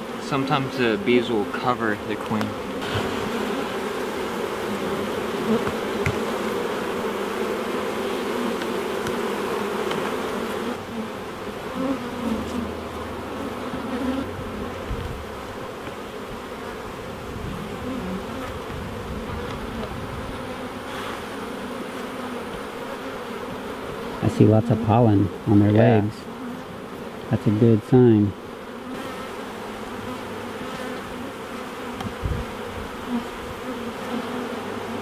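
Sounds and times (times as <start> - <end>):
honey bees buzzing: 0.0 - 35.0.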